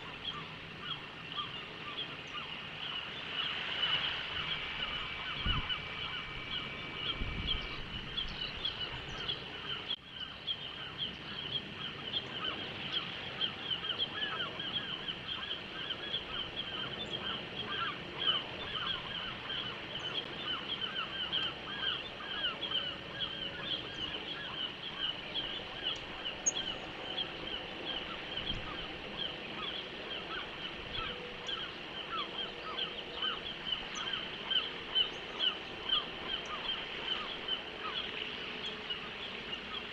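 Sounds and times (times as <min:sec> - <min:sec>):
birds calling: 0:00.0 - 0:39.9.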